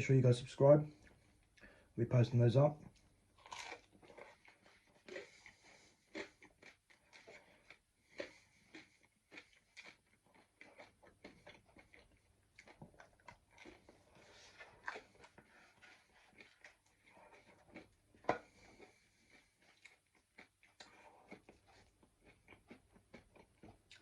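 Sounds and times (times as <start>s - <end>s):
chewing with soft crunches: 0.9s - 1.9s, 2.8s - 24.0s.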